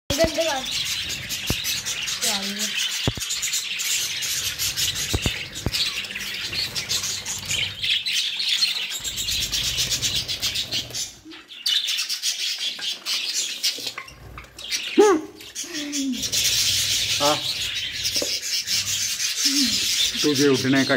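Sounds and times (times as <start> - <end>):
budgerigars chattering: 0.1 - 20.9.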